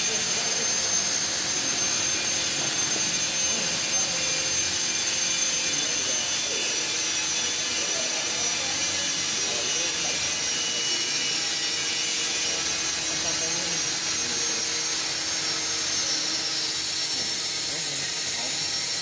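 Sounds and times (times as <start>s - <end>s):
laser cutter and fans whirring: 0.0s - 19.0s
thin high whine: 0.0s - 19.0s.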